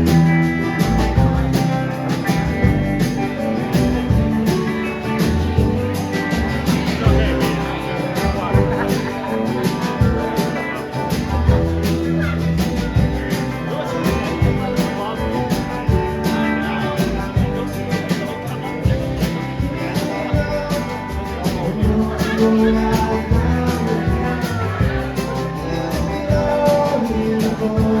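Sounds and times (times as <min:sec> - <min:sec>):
bass guitar: 0:00.0 - 0:28.0
drums keeping a steady beat: 0:00.0 - 0:28.0
electric guitar: 0:00.0 - 0:28.0.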